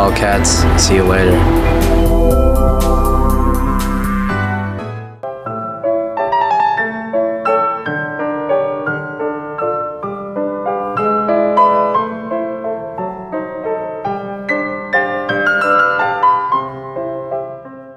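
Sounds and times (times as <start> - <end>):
gentle piano music: 0.0 - 17.9.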